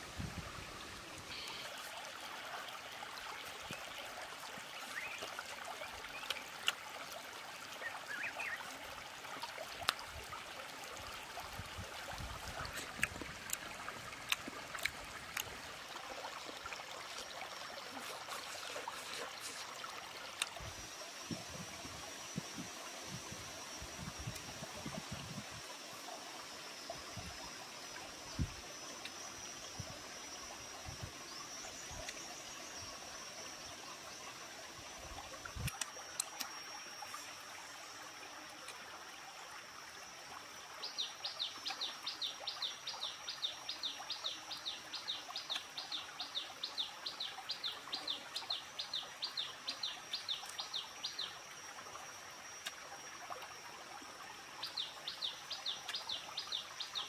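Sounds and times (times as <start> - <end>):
insect drone: 0.0 - 57.0
stream hissing: 0.0 - 57.0.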